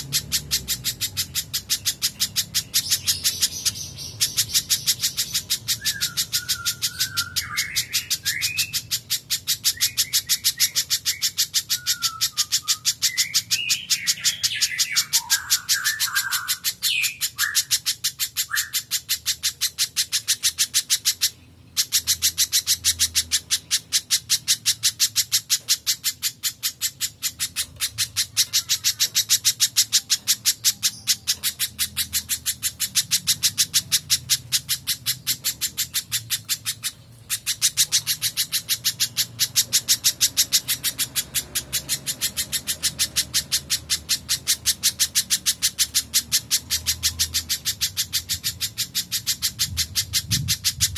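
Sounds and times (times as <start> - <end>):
bird calling high sharp notes: 0.0 - 50.9.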